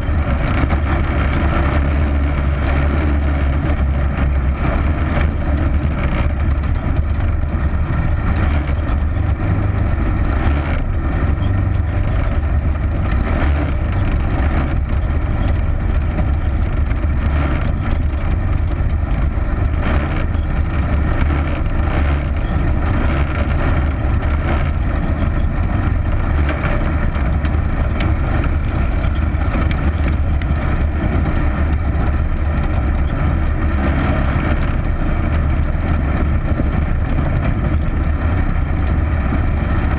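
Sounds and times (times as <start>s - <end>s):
racing engine running: 0.0s - 39.9s.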